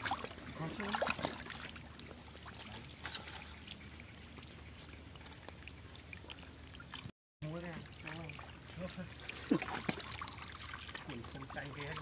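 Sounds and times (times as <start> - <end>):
muddy water trickling and splashing: 0.0 - 12.0.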